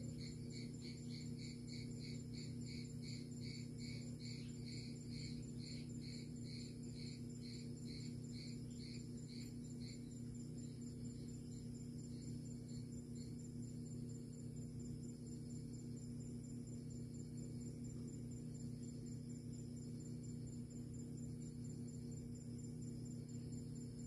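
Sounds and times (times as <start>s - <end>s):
insect chirping: 0.0s - 24.0s
steady low hum: 0.0s - 24.0s.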